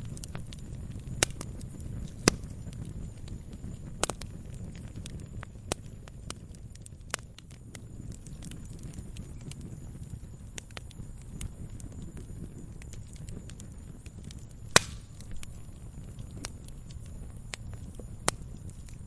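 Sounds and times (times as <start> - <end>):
campfire pops and snaps: 0.0 - 19.0
low rumble of burning: 0.0 - 19.0.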